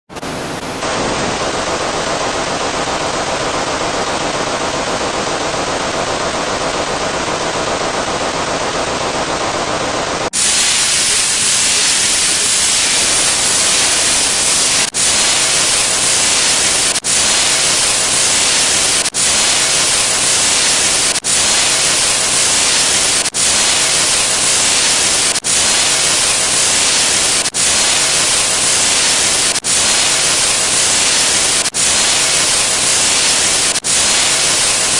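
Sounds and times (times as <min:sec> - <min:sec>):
electronic static hiss: 0:00.1 - 0:34.9.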